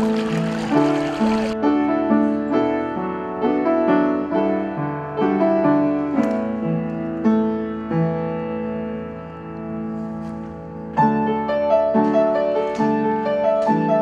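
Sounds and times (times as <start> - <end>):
slow gentle piano piece: 0.0 - 14.0.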